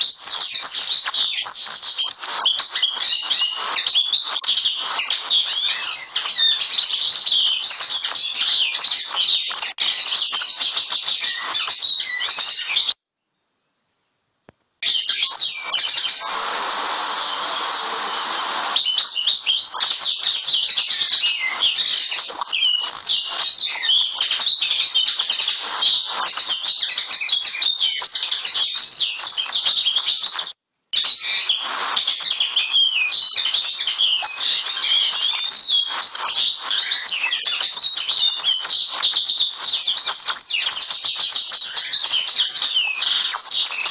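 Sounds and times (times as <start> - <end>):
linnet twittering song: 0.0 - 13.0, 14.8 - 43.9.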